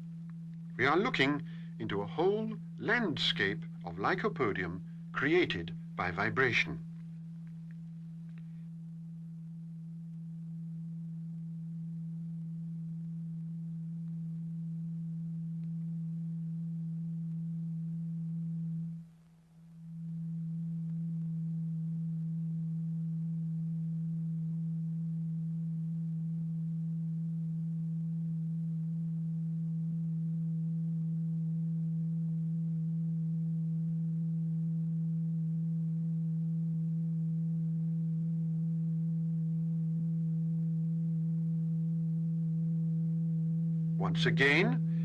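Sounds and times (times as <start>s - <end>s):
low sine tone: 0.0s - 45.0s.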